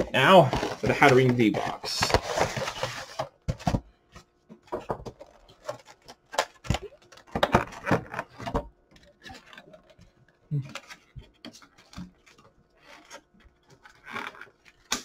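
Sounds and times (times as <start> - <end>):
cardboard and plastic packaging crinkling: 0.1 - 15.0.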